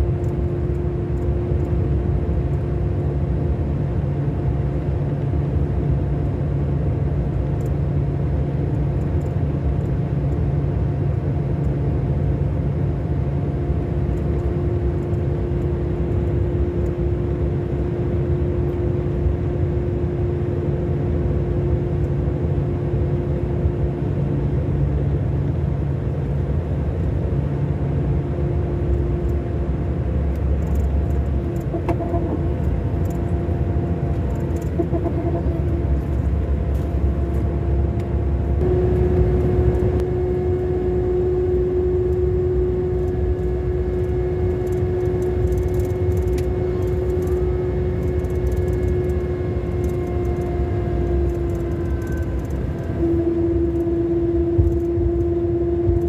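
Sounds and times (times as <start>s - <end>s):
diesel engine rumble with whine: 0.0s - 56.0s.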